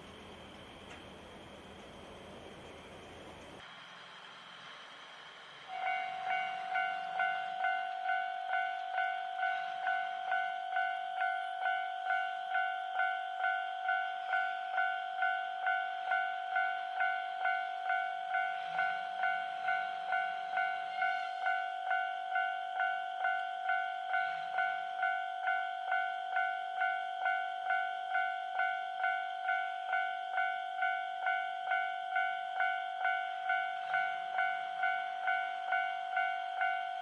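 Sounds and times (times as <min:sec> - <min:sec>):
level crossing warning bell: 0:05.7 - 0:37.0.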